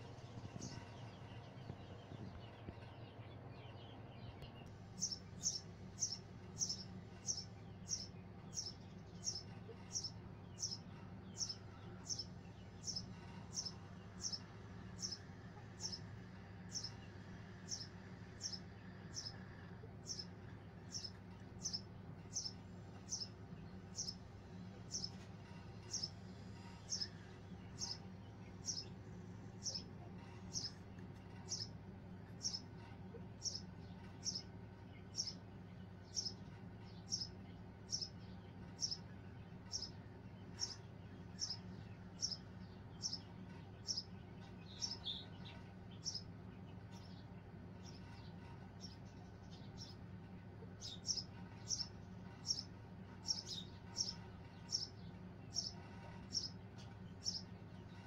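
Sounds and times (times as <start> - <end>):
bird chirping: 0.0 - 58.0
constant low hum: 0.0 - 58.0.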